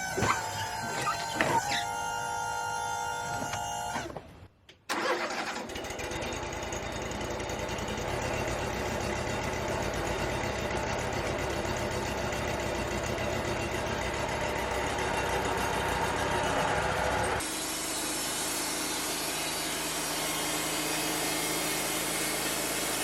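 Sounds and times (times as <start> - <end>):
sawmill engine and band saw: 0.0 - 4.1, 4.9 - 23.0.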